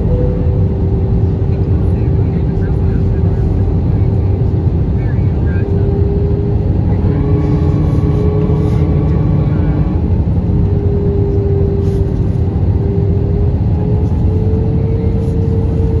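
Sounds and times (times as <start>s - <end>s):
jet engines and rushing air: 0.0s - 16.0s
steady hum: 0.0s - 16.0s.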